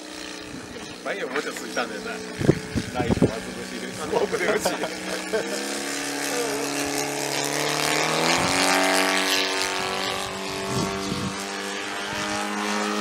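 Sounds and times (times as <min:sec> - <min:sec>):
model aeroplane engine running: 0:00.0 - 0:13.0.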